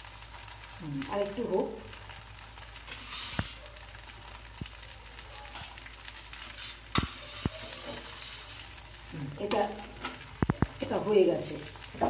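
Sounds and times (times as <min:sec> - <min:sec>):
omelette sizzling in frying pan: 0:00.0 - 0:12.0.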